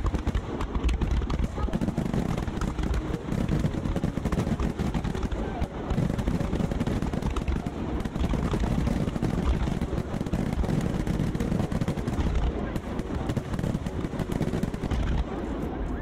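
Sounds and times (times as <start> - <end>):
fireworks booming and crackling: 0.0 - 16.0.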